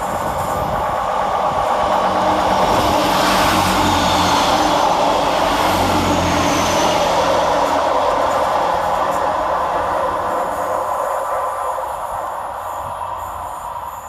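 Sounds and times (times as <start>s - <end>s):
diesel engine drone: 0.0s - 14.0s
train wheels on rails: 0.0s - 14.0s.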